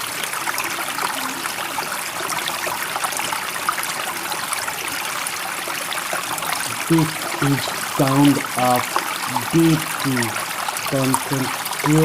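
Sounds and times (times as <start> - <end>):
water flowing and trickling: 0.0 - 12.0.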